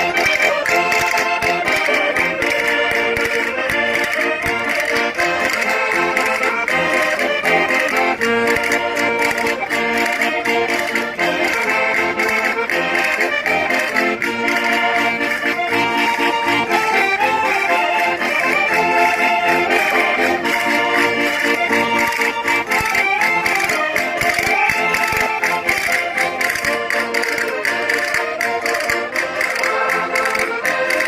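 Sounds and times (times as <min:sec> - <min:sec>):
button accordions playing folk dance: 0:00.0 - 0:31.0.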